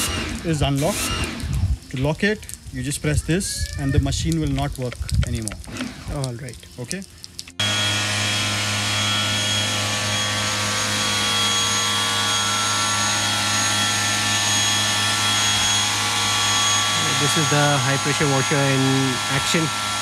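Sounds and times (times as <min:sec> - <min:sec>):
pressure washer motor hum: 0:00.0 - 0:02.6, 0:04.3 - 0:20.0
high-pressure water jet hissing: 0:00.0 - 0:20.0.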